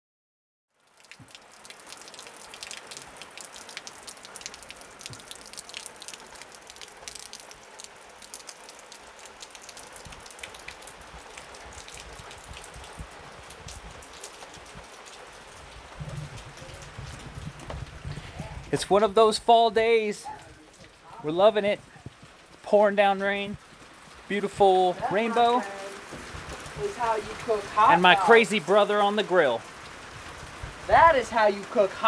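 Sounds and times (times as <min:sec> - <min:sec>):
rain hissing: 0:00.7 - 0:32.0
raindrops tapping: 0:00.8 - 0:32.0.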